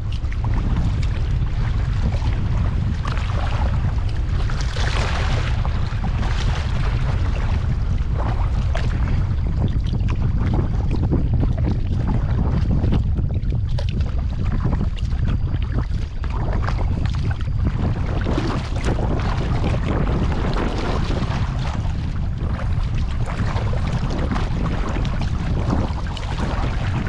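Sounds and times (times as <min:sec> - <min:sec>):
water splashing and sloshing: 0:00.0 - 0:27.0
wind buffeting microphone: 0:00.0 - 0:27.0.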